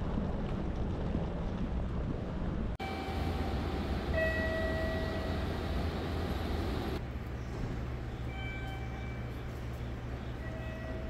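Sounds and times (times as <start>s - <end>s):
low hum and noise: 0.0s - 11.0s.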